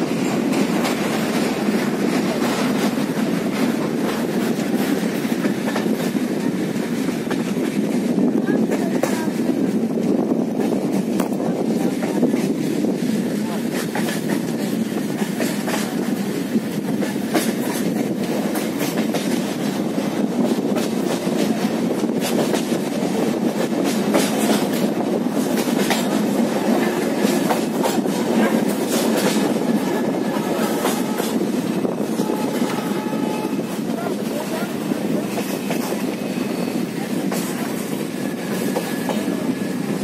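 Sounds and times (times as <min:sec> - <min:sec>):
clickety-clack of rail joints: 0:00.0 - 0:40.0
train wheels rumbling on rails: 0:00.0 - 0:40.0.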